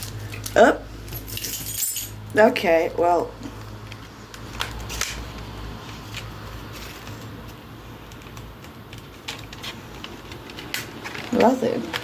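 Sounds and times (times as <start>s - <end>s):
packaging clicks and rustles: 0.0s - 1.7s, 3.4s - 12.0s.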